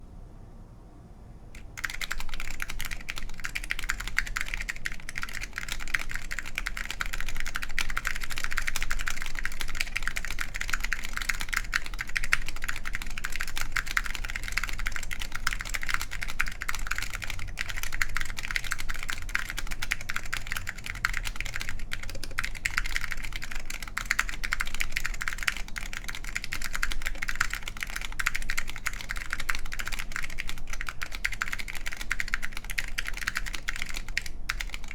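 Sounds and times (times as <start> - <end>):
mechanical keyboard typing: 1.6 - 34.9.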